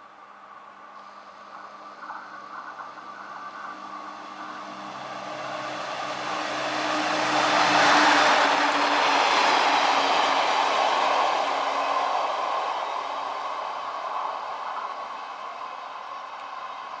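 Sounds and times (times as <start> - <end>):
diesel train engine hum: 0.0 - 17.0
train wheels on rail: 1.0 - 17.0.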